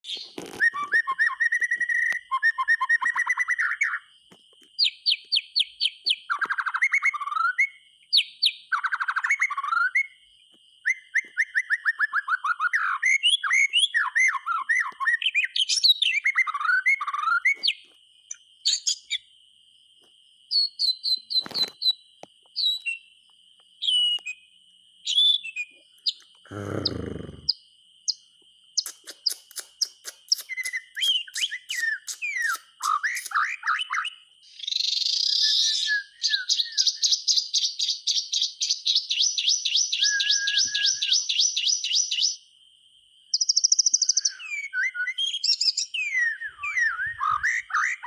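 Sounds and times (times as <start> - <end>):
bird singing whistles and trills: 0.0 - 4.2, 4.8 - 19.2, 20.5 - 23.1, 23.8 - 28.2, 28.8 - 42.4, 43.3 - 48.0.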